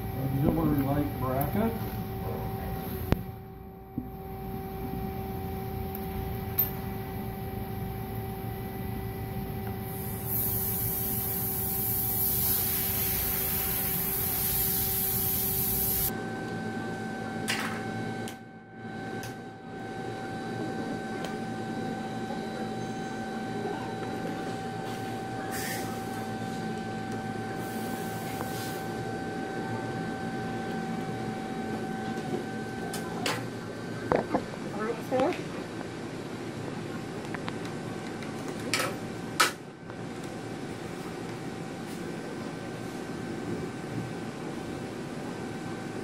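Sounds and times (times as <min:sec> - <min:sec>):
mechanical hum and hiss: 0:00.0 - 0:46.0.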